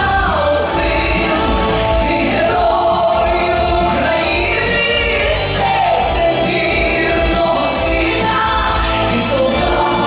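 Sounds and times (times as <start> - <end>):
backing music with bass: 0.0 - 10.0
woman singing a pop song: 0.0 - 10.0.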